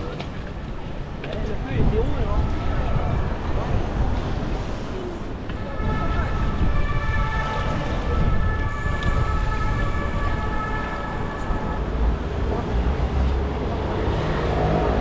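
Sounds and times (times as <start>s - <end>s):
street traffic: 0.0s - 15.0s
wind rumble: 0.0s - 15.0s.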